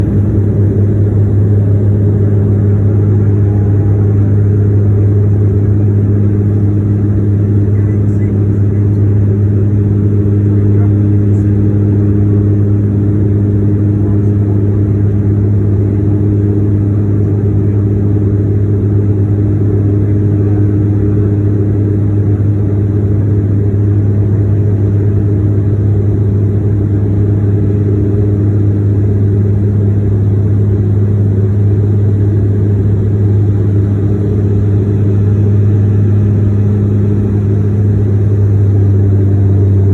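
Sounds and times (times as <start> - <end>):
engine and airflow noise: 0.0 - 39.9
propellers droning: 0.0 - 39.9.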